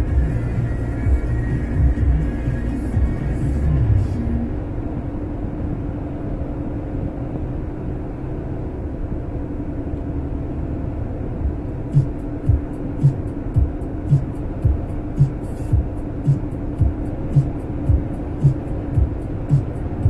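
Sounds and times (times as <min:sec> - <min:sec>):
road and engine rumble in car cabin: 0:00.0 - 0:20.0.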